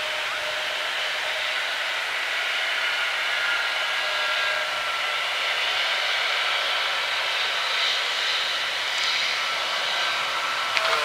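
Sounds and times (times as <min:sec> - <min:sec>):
jet engines hissing: 0:00.0 - 0:11.0.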